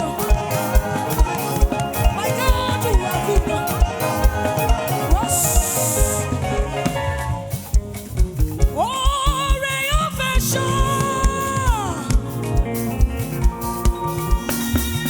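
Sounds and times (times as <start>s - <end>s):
band playing upbeat praise music: 0.0s - 15.0s.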